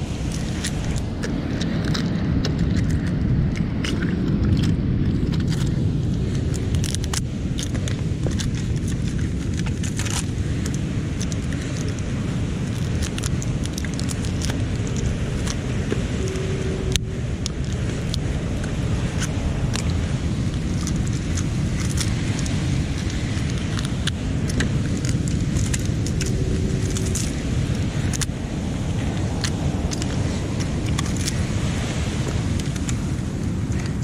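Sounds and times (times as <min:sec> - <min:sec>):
steady low rumble: 0:00.0 - 0:34.0
mussel shells clicking: 0:00.2 - 0:34.0.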